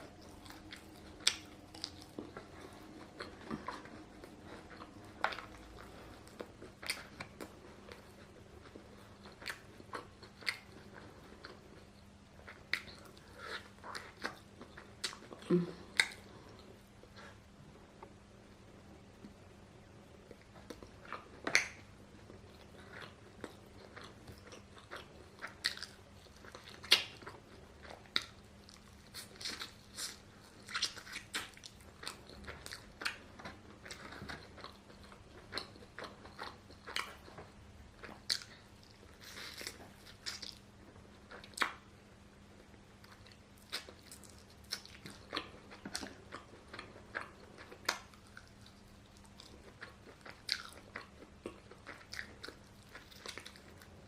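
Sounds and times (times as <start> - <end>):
person chewing crunchy food: 0.0 - 17.4, 20.2 - 41.9, 43.0 - 54.0.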